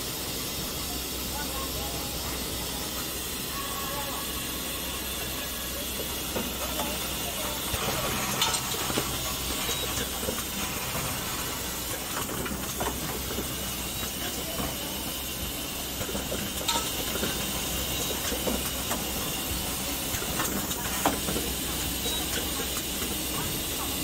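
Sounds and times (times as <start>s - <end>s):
machinery hissing din: 0.0s - 24.0s.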